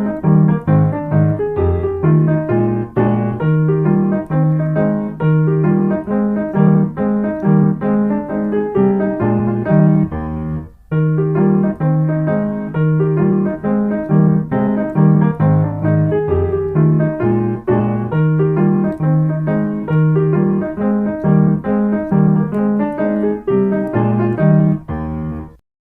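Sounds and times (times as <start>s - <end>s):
piano tune over bass line: 0.0s - 25.6s.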